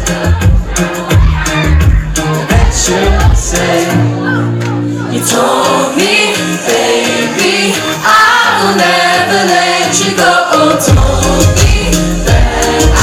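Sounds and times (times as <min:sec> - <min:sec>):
musical accompaniment: 0:00.0 - 0:13.0
woman and man singing pop song: 0:00.0 - 0:13.0.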